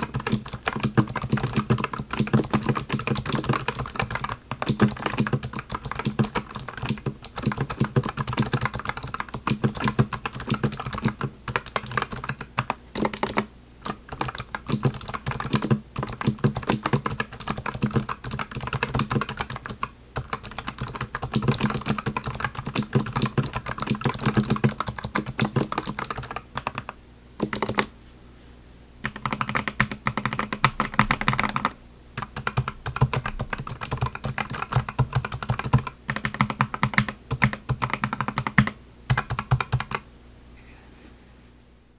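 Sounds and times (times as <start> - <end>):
mechanical keyboard typing clicks: 0.0 - 27.9, 29.1 - 40.0.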